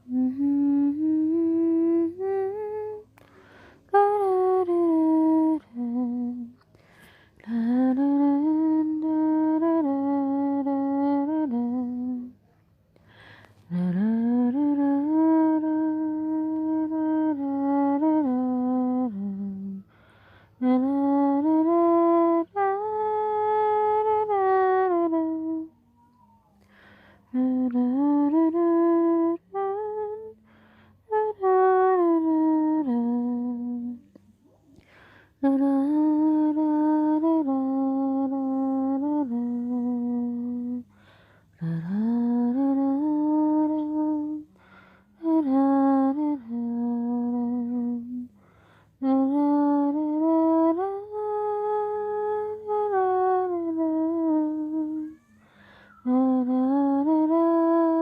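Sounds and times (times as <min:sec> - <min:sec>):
person humming a lullaby: 0:00.0 - 0:58.0.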